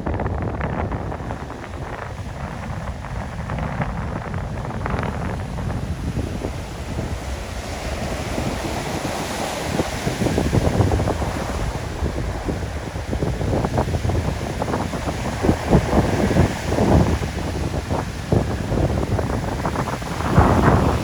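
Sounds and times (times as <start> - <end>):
surf washing on beach: 0.0 - 21.0
wind gusts buffeting microphone: 0.0 - 21.0.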